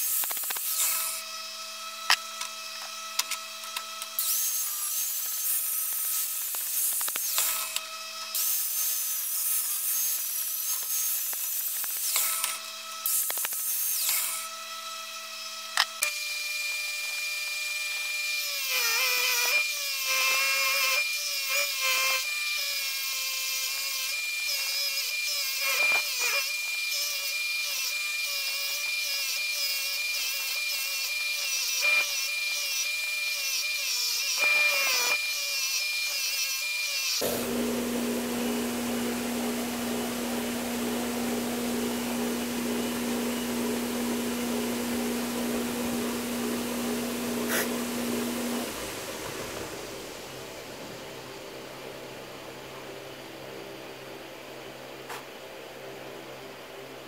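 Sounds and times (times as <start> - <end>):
power grinder grinding metal: 0.0 - 50.7.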